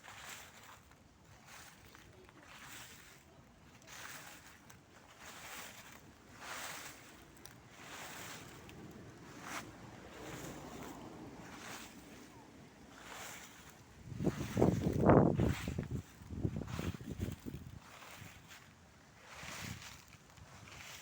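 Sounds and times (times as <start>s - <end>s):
footsteps in dry leaves: 0.0s - 21.0s.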